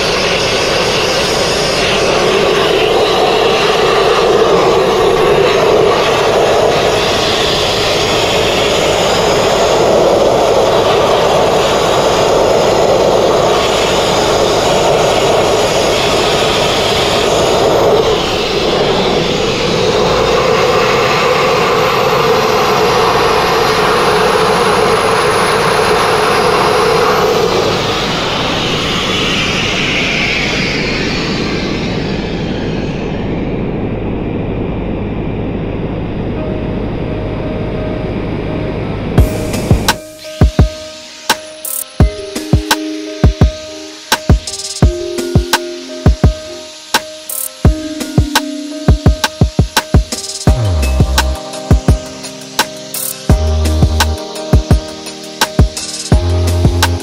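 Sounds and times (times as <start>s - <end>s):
sandblasting air and grit rush: 0.0s - 33.0s, 39.2s - 57.0s.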